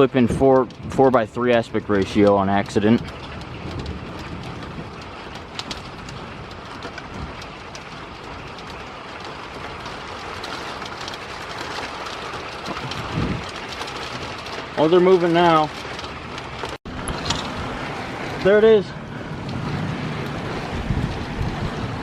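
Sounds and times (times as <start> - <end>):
storm wind and rain: 0.0 - 22.0.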